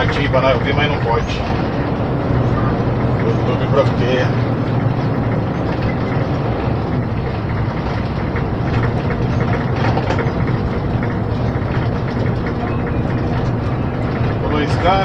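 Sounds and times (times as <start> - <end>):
rattles and knocks: 0.0 - 15.0
road noise: 0.0 - 15.0
truck engine drone: 0.0 - 15.0.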